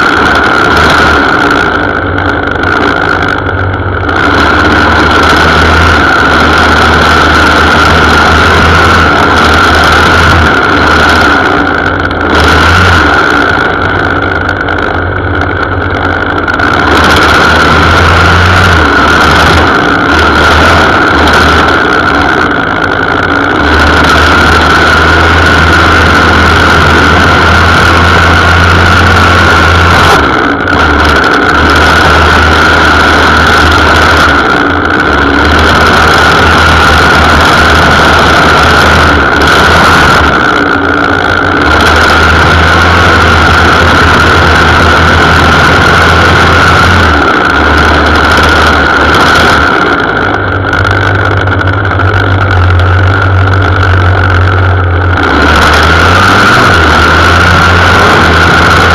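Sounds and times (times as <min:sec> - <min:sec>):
string trimmer engine running: 0:00.0 - 0:58.9.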